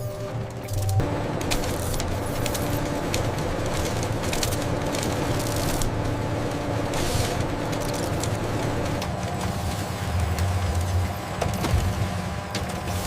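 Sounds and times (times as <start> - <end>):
machinery clicks: 0.0 - 13.0
machinery humming: 0.0 - 13.0.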